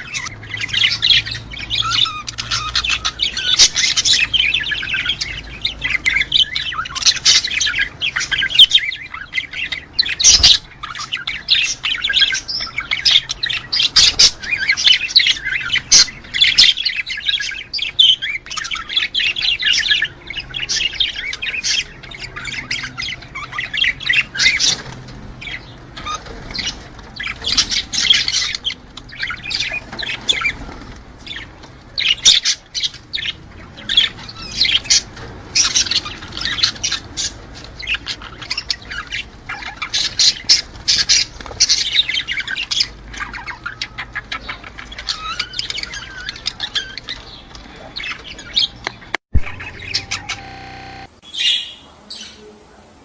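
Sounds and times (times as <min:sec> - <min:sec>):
budgerigars chattering: 0:00.0 - 0:52.5.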